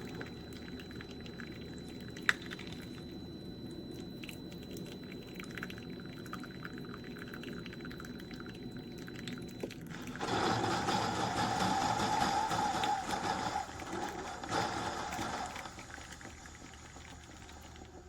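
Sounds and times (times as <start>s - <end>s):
coffee maker humming: 0.0s - 18.0s
coffee pouring into cup: 0.0s - 18.0s.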